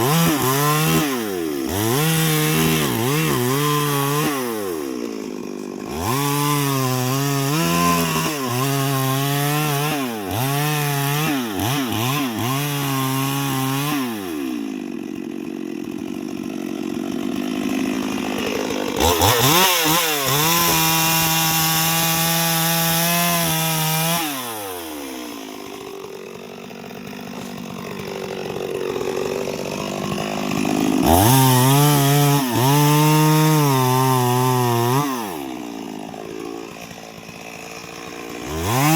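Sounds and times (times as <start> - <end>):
chainsaw cutting into wood: 0.0 - 38.9.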